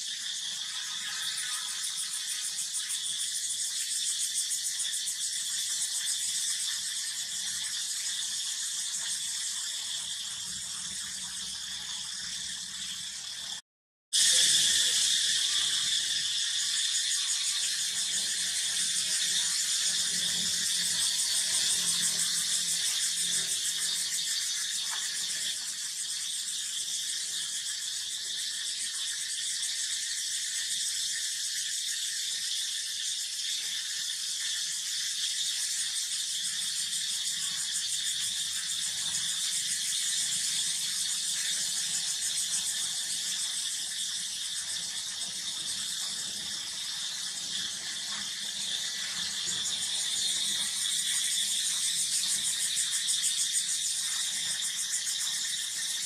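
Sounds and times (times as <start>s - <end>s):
insects droning: 0.0s - 13.6s, 14.2s - 56.0s.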